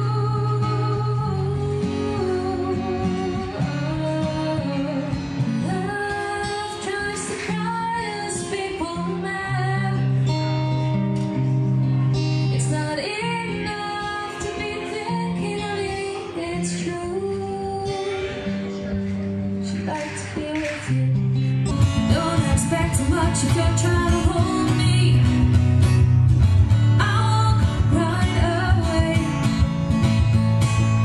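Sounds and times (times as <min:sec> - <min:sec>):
woman singing: 0:00.0 - 0:10.4, 0:12.5 - 0:18.5, 0:19.6 - 0:25.6, 0:27.0 - 0:29.8
acoustic guitar: 0:00.0 - 0:31.0.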